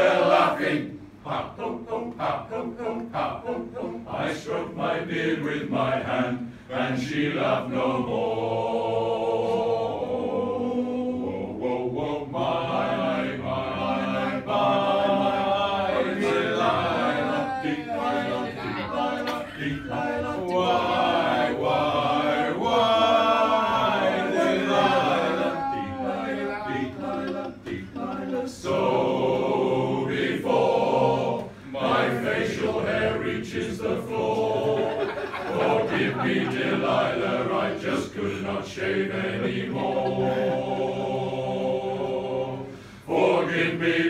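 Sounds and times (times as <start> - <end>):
male choir singing a cappella: 0.0 - 44.0.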